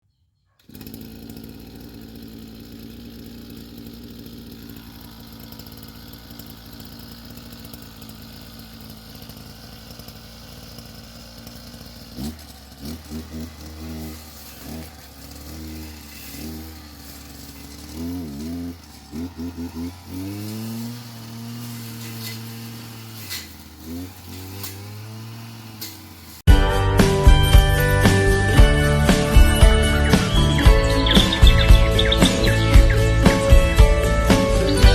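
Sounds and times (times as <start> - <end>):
small engine tool running: 0.6 - 34.9.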